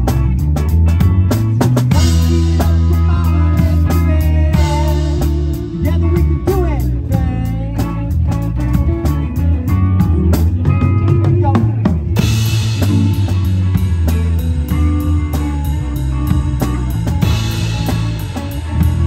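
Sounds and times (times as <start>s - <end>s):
rock band playing: 0.0s - 19.0s
electric guitar sliding notes: 1.8s - 19.0s.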